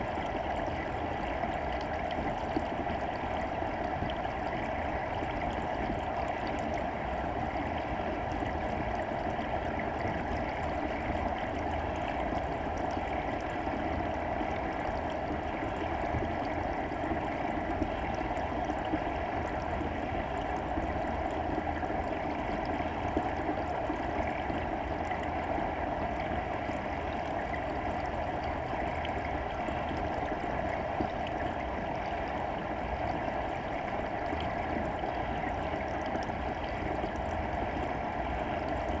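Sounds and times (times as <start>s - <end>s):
underwater rush of water: 0.0s - 39.0s.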